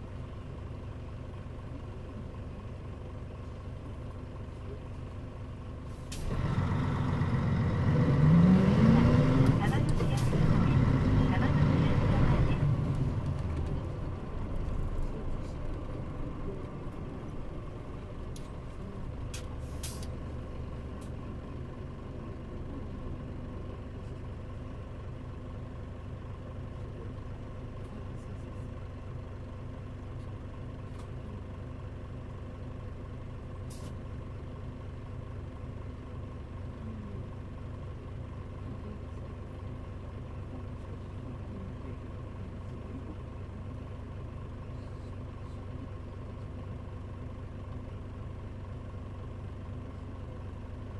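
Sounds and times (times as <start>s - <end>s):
bus diesel engine drone: 0.0s - 50.9s.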